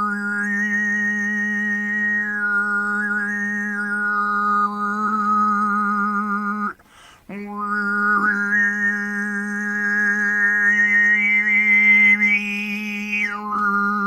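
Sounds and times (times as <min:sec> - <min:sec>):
whistling overtone melody: 0:00.0 - 0:06.6, 0:07.6 - 0:14.0
throat singing drone: 0:00.0 - 0:14.0.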